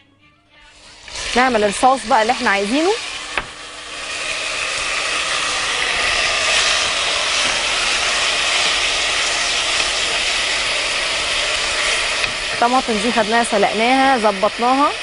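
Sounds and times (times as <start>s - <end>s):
tomatoes sizzling in hot oil: 0.7s - 15.0s.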